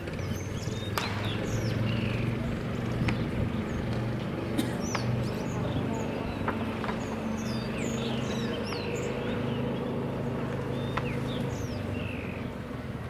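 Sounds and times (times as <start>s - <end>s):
birds chirping: 0.0s - 13.0s
small engine humming: 0.0s - 13.0s.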